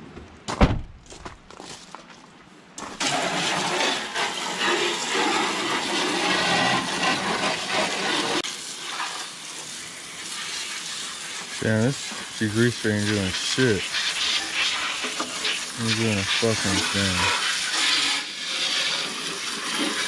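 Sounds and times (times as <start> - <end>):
water spraying from hose: 3.0 - 20.0.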